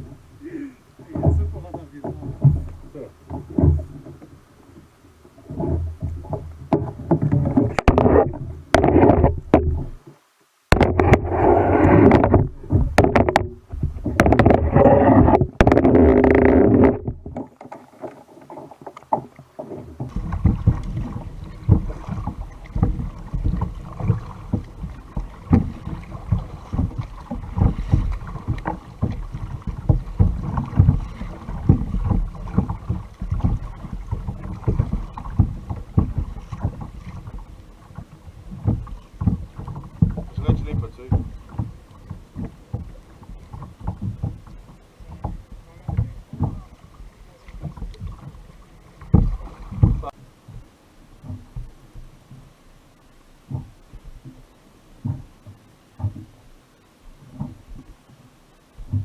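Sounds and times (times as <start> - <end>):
small knocks and splashes: 0.0 - 59.0
water rushing around a kayak: 0.0 - 59.0.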